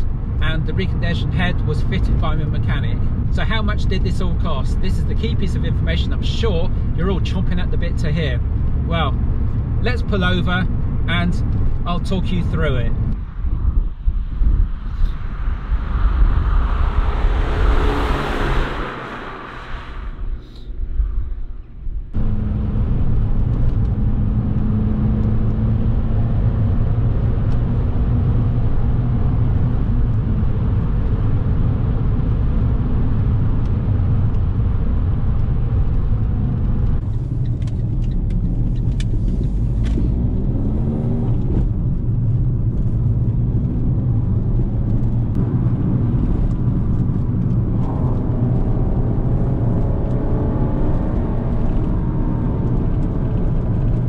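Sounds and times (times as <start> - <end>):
car engine under load: 0.0 - 54.0.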